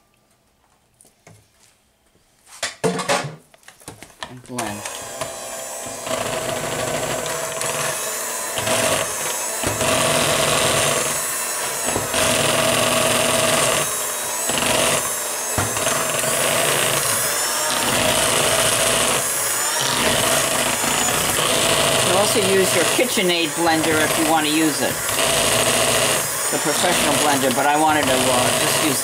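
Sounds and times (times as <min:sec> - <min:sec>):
electric hand mixer running: 0:04.6 - 0:29.0
beaters churning thick batter: 0:05.0 - 0:29.0.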